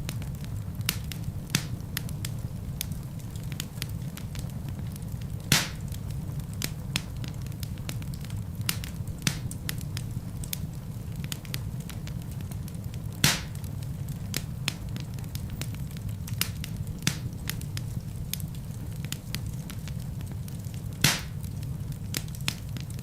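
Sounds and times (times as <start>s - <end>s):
fire popping: 0.0s - 23.0s
wood fire burning: 0.0s - 23.0s.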